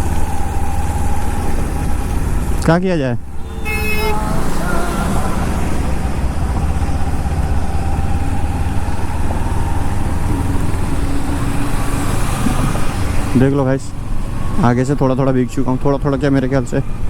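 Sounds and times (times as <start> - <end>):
motorcycle engine: 0.0 - 14.7
wet road noise: 0.0 - 17.0.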